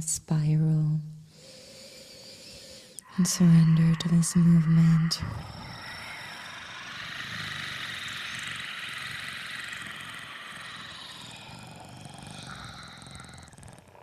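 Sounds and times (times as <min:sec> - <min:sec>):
steady hissing rush: 0:01.4 - 0:13.6.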